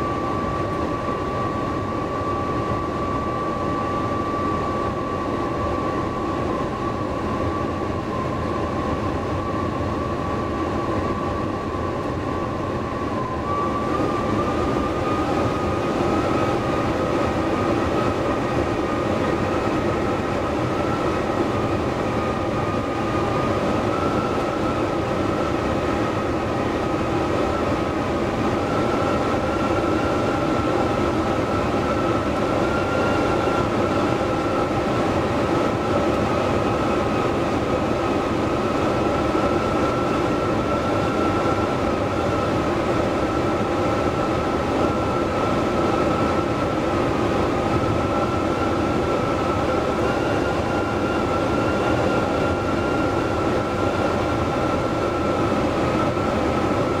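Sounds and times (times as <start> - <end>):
steady high whine: 0.0 - 57.0.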